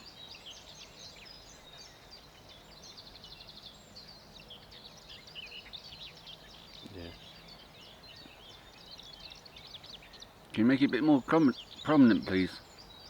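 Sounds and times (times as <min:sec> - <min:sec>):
low background hiss: 0:00.0 - 0:13.0
small birds singing: 0:00.0 - 0:13.0.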